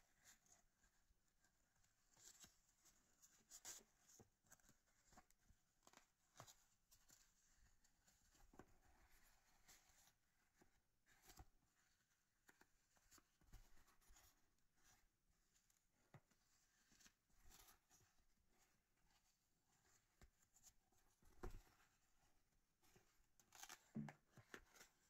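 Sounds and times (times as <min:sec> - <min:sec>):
felt pieces rustling and scratching: 0:00.1 - 0:25.0.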